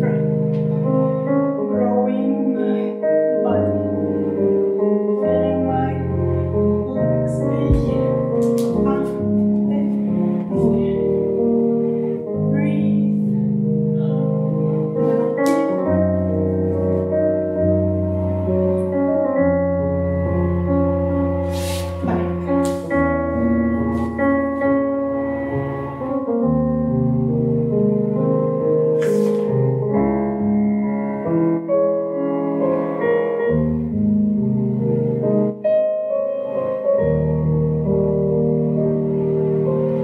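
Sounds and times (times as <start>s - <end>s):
piano chords: 0.0s - 40.0s.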